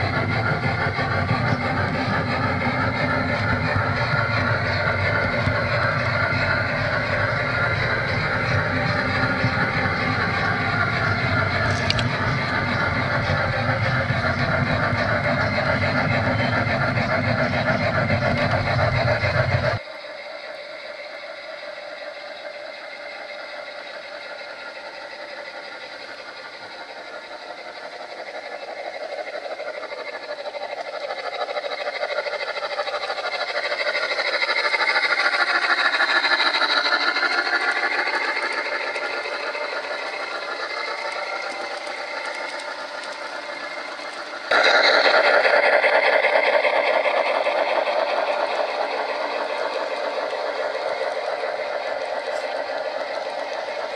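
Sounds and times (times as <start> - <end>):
model train rolling clatter: 0.0 - 53.9.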